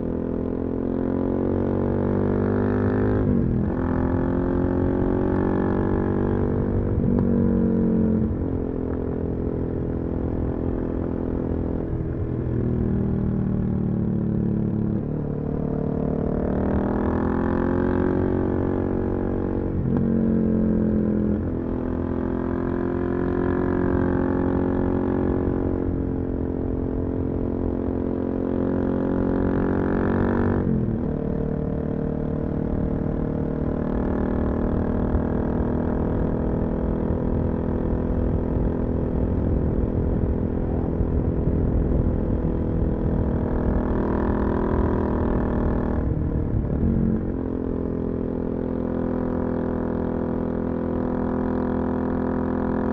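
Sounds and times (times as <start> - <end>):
motorcycle engine revving: 0.0 - 11.9, 12.6 - 52.9.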